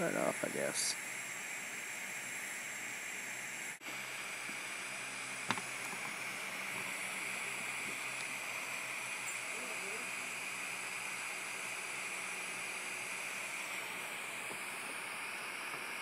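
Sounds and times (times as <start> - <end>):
soldering torch hissing: 0.0 - 16.0.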